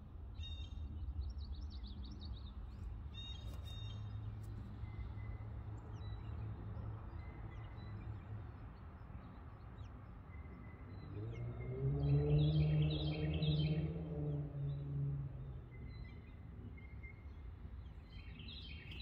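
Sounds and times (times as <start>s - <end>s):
birds chirping: 0.6s - 19.0s.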